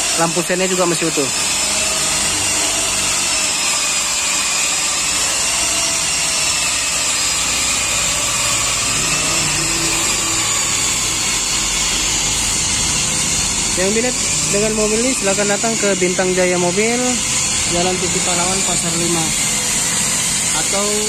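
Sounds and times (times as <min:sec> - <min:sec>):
faint wavering whine: 0:00.0 - 0:21.0
small motor whirring: 0:00.0 - 0:21.0.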